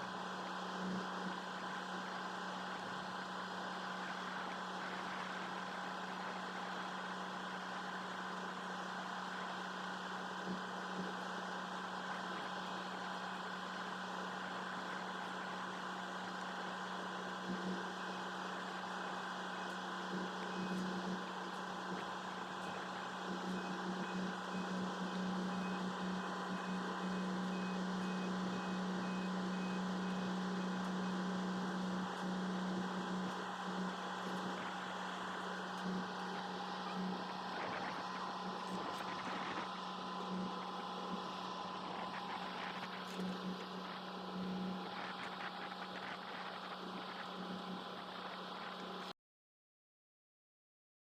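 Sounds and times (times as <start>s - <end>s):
steady machine hum: 0.0s - 49.1s.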